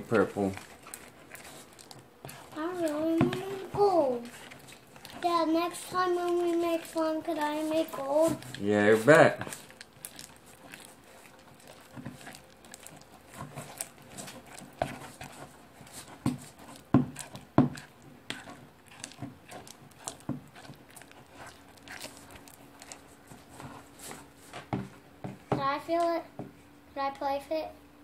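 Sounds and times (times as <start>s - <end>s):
slime squished by hand: 0.1s - 24.4s.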